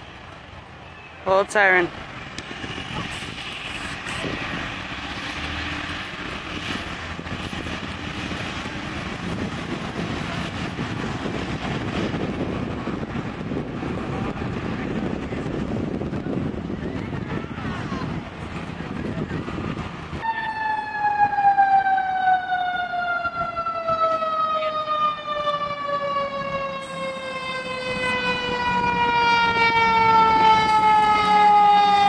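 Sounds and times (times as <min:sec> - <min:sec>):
truck engine and road noise: 0:00.0 - 0:32.0.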